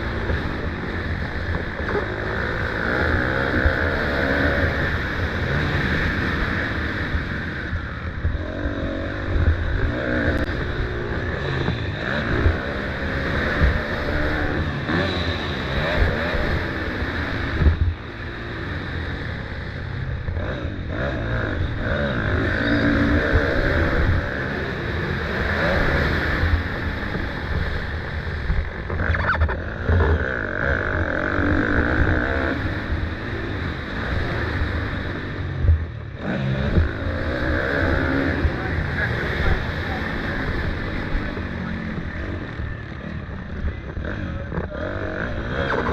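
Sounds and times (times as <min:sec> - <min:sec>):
motocross motorcycle engine revving: 0:00.0 - 0:45.9.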